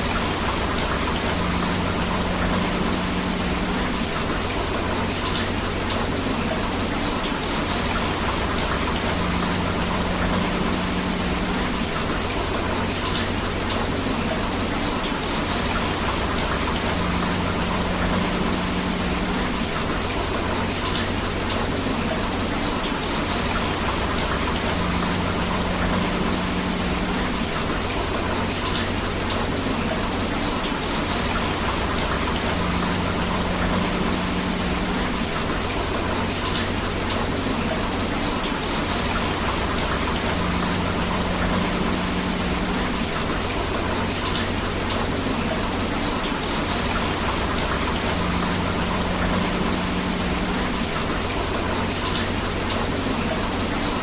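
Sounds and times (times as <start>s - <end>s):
river water flowing: 0.0s - 54.0s
steady rain: 0.0s - 54.0s.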